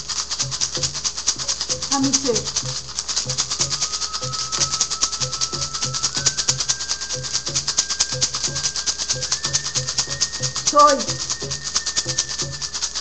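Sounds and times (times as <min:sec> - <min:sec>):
hand rattle shaken rapidly: 0:00.0 - 0:13.0
thin high tone: 0:01.4 - 0:13.0.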